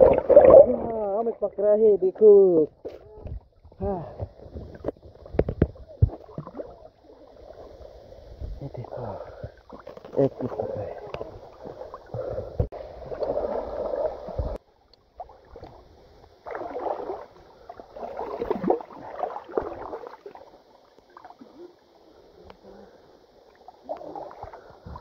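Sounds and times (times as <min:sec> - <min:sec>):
river water sloshing and gurgling: 0:00.0 - 0:01.6, 0:04.4 - 0:21.8, 0:23.5 - 0:25.0.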